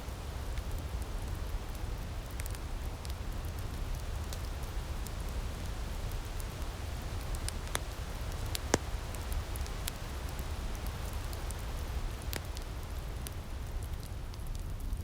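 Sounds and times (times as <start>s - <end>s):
firepit crackling and popping: 0.0s - 15.0s
steady hiss and low rumble: 0.0s - 15.0s.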